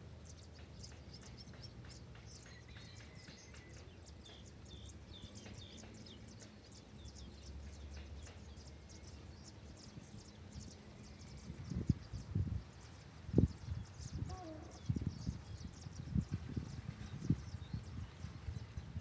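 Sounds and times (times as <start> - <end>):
bird chirps and calls: 0.3 - 18.8.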